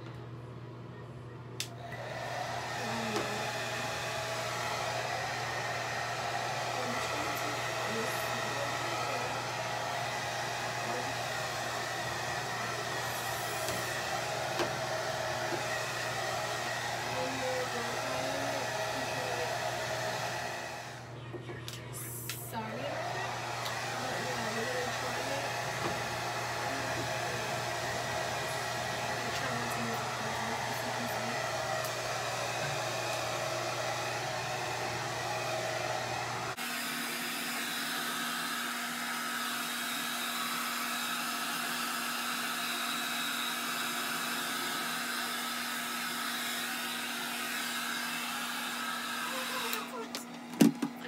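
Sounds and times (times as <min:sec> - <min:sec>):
hair dryer blowing: 0:01.6 - 0:21.2, 0:22.1 - 0:51.0.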